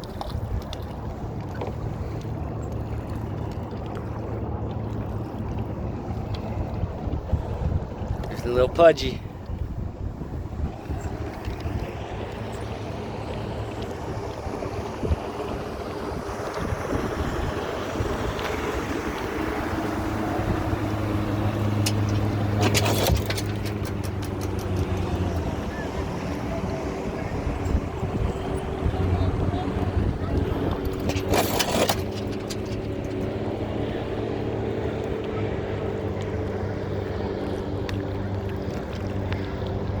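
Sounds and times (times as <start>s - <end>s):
boat engine running: 0.0s - 40.0s
water noise: 0.0s - 40.0s
wind on microphone: 3.2s - 40.0s.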